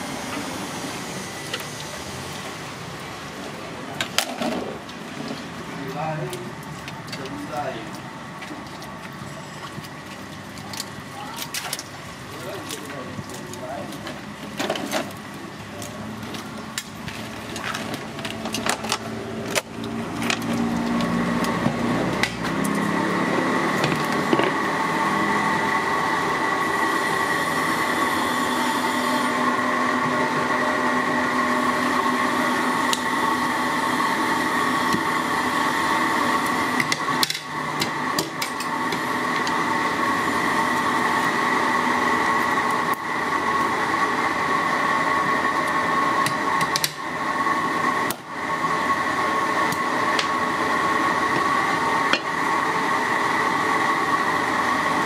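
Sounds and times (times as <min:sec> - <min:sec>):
mechanical hum with high whine: 0:00.0 - 0:55.0.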